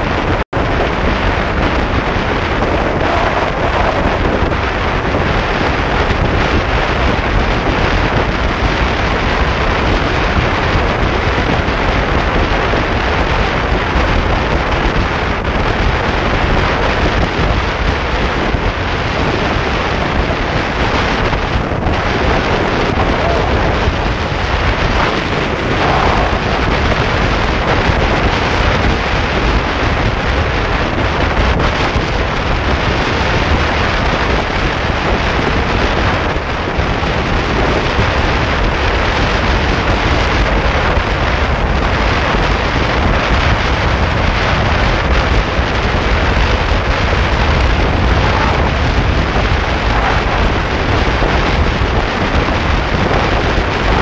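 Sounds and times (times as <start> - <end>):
loud wind rushing on microphone: 0.0 - 54.0.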